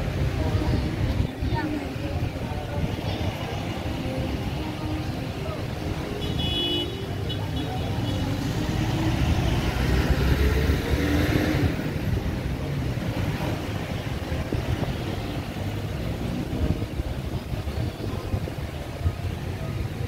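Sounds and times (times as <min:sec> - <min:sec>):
traffic rumble: 0:00.0 - 0:20.0
vehicle passing: 0:01.3 - 0:20.0.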